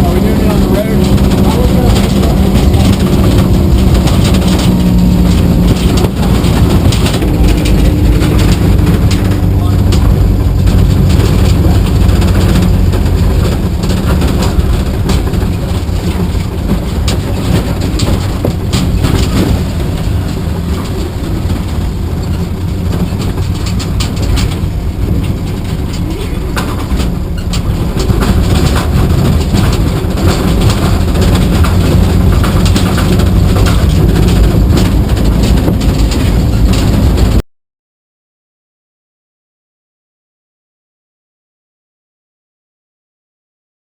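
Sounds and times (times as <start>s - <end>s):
rattles and knocks: 0.0s - 37.4s
truck engine rumble: 0.0s - 37.4s.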